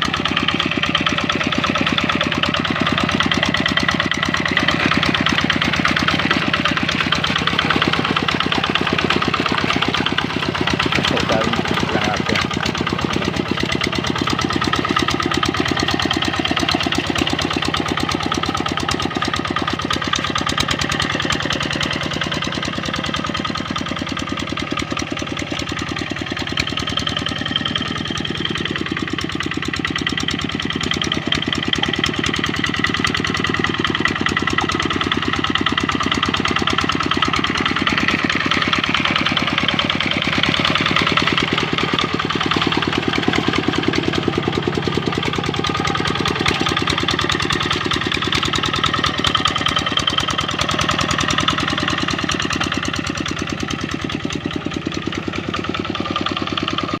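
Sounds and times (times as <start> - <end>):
diesel engine knocking: 0.0 - 57.0.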